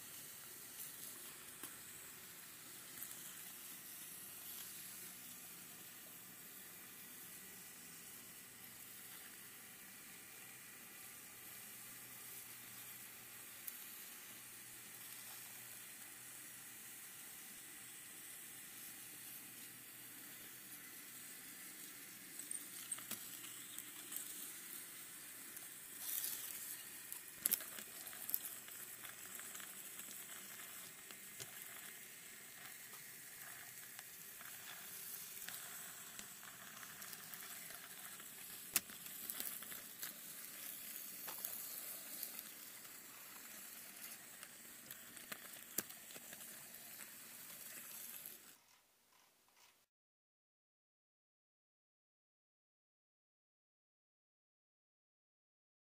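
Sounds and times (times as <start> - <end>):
model train rolling on track: 0.0 - 48.8.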